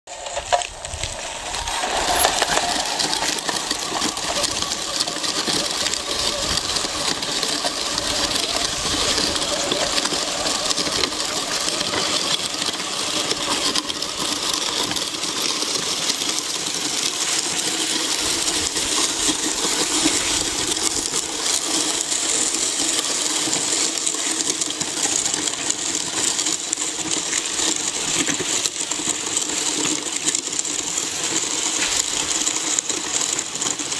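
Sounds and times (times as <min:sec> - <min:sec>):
toy truck motor whining: 0:00.2 - 0:33.9.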